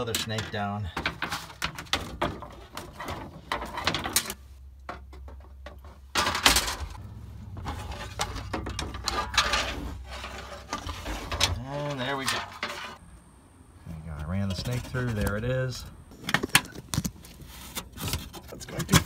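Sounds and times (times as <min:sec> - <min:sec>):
fish tape clattering and scraping: 0:00.0 - 0:13.0, 0:16.2 - 0:19.0.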